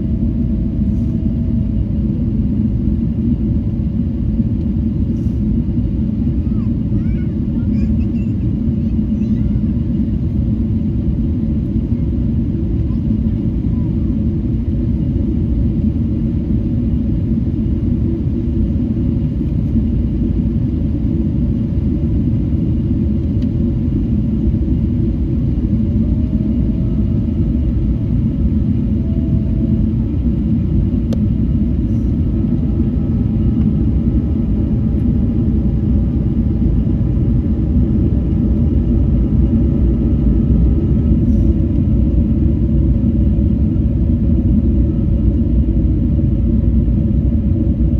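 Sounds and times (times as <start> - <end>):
airplane cabin engine rumble: 0.0 - 47.9.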